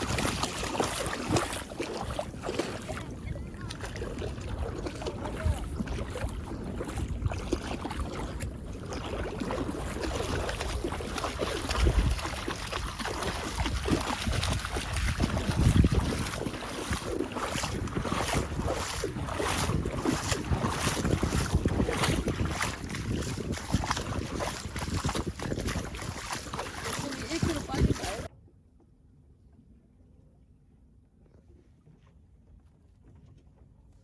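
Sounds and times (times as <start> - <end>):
wind buffeting microphone: 0.0 - 28.3.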